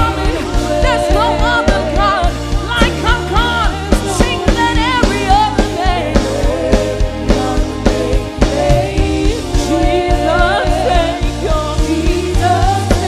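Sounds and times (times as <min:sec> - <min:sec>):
band with drums and bass: 0:00.0 - 0:13.0
singers holding long notes: 0:00.0 - 0:13.0.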